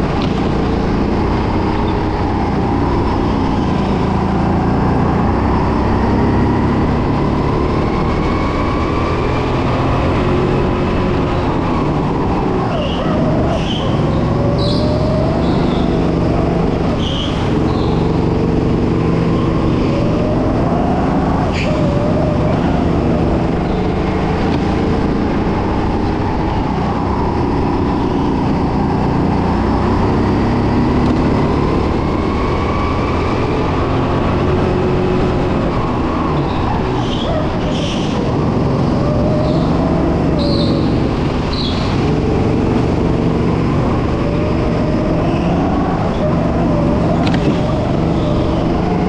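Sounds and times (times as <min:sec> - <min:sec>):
kart engine revving: 0:00.0 - 0:49.0.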